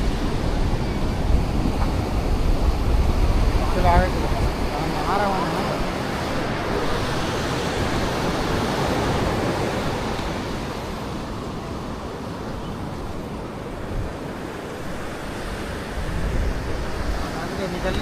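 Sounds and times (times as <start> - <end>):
sea surf washing onto beach: 0.0 - 18.0.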